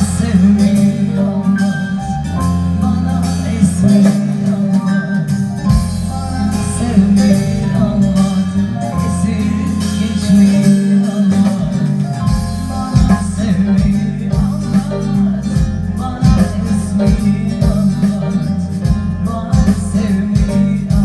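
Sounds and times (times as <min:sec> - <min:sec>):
keyboard accompaniment with beat: 0:00.0 - 0:21.0
person singing: 0:00.0 - 0:21.0.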